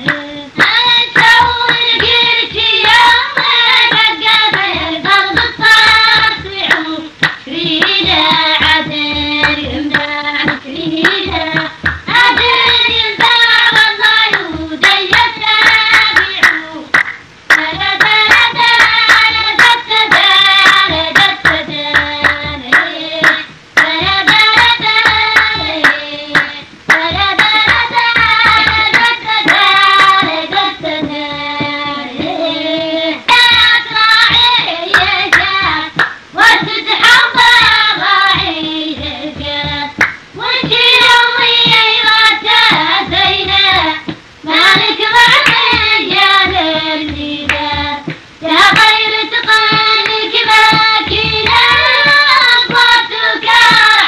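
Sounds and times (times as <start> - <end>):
sharp hand claps: 0.0 - 54.0.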